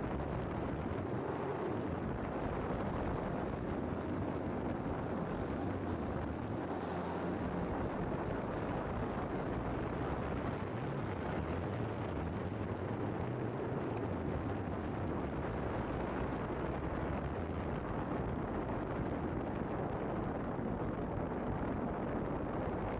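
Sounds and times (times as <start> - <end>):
wind on microphone: 0.0 - 22.9.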